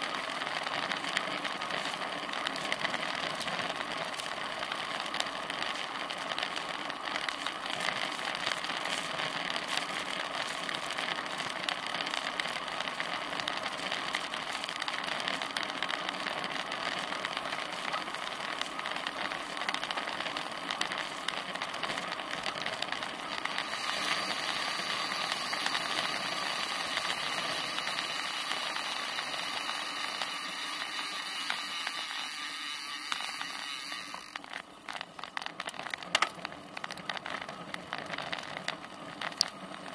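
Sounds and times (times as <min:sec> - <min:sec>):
bicycle tyres on asphalt: 0:00.0 - 0:39.9.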